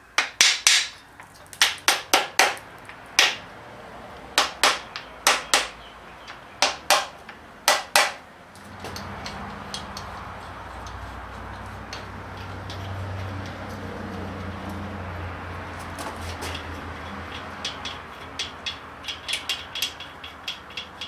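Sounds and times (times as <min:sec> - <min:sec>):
sharp metal knocks: 0:00.2 - 0:03.5, 0:04.4 - 0:21.0.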